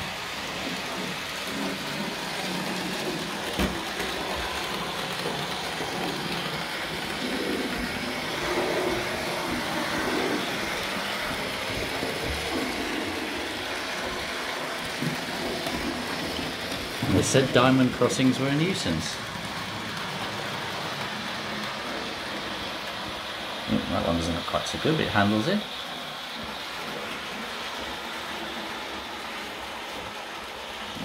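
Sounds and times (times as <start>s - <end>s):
wheels running on rails: 0.0s - 31.0s.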